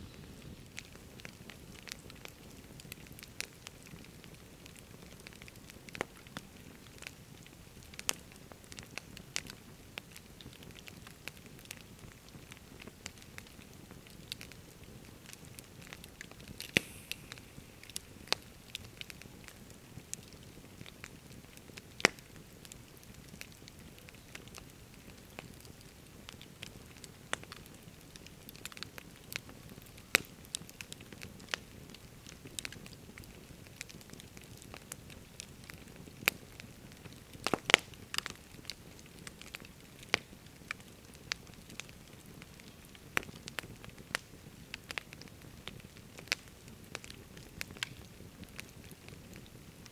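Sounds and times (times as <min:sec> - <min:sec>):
campfire crackling and popping: 0:00.0 - 0:49.9
soft low background noise: 0:00.0 - 0:49.9.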